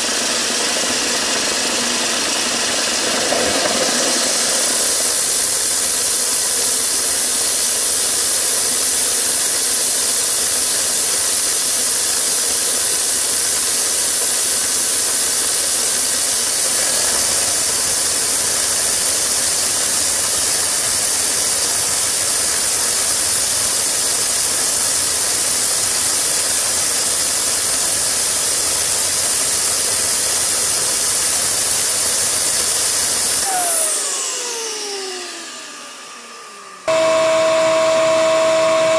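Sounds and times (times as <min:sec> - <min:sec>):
gas turbine jet hiss: 0:00.0 - 0:38.9.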